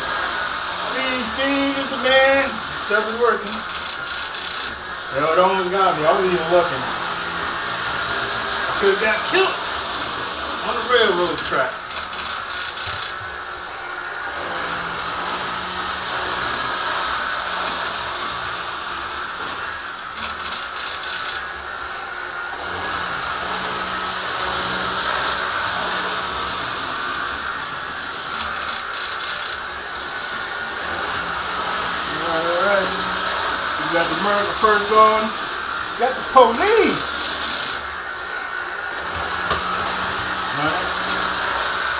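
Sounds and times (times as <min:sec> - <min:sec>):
electric whir of small motors: 0:00.0 - 0:41.9.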